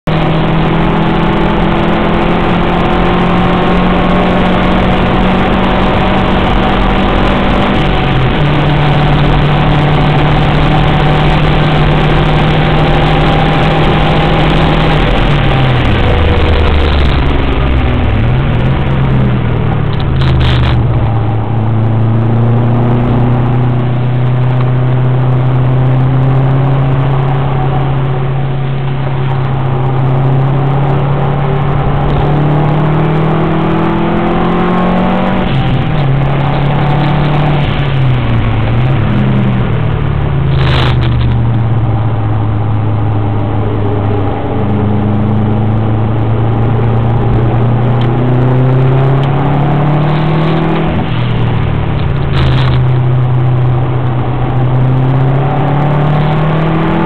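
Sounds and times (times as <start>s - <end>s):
car engine pulling hard: 0.0s - 57.0s
road noise: 0.0s - 57.0s
wind noise: 0.0s - 57.0s.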